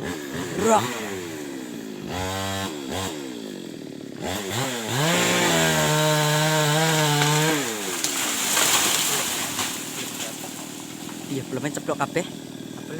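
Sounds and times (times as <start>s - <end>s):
chainsaw engine revving: 0.0s - 12.9s.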